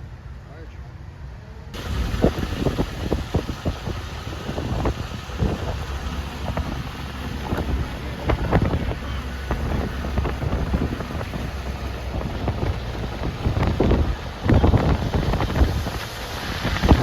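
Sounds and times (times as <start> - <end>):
gusty wind buffeting microphone: 1.7 - 17.0.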